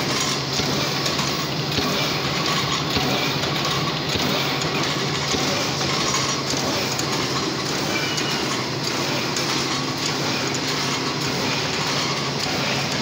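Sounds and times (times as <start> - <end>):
machine clattering: 0.0 - 13.0.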